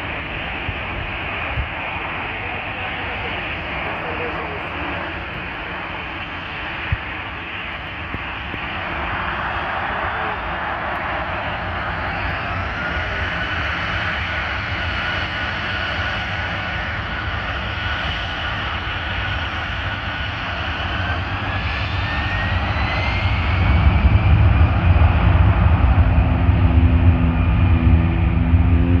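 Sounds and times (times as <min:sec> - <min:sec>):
jet engines whining: 0:00.0 - 0:29.0.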